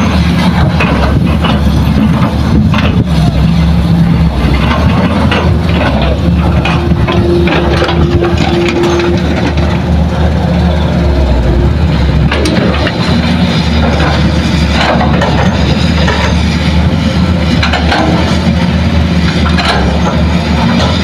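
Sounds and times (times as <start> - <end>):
diesel engines running: 0.0 - 21.0
steady whine: 0.0 - 21.0.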